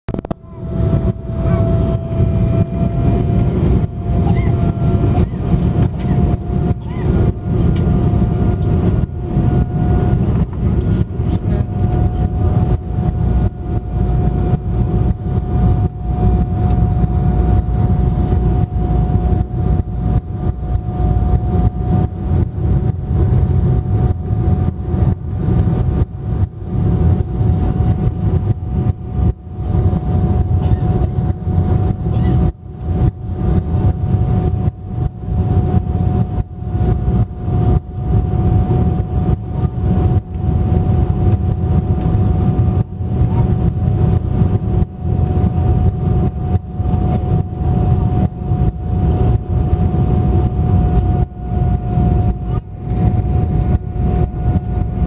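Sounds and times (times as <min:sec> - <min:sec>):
jet engine rumble and airflow: 0:00.1 - 0:55.0
steady whine: 0:00.1 - 0:55.0.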